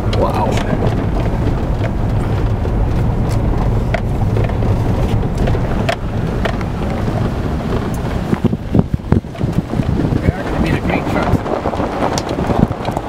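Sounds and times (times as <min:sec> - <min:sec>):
engine and tyres rumbling on dirt: 0:00.0 - 0:13.0.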